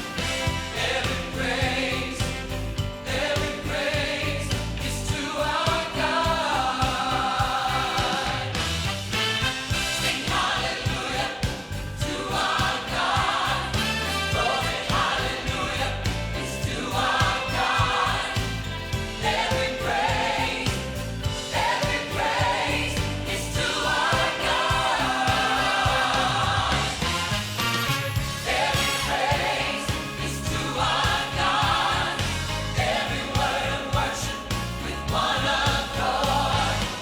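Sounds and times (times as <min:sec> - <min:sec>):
group of voices singing: 0:00.0 - 0:37.0
instrumental accompaniment: 0:00.0 - 0:37.0.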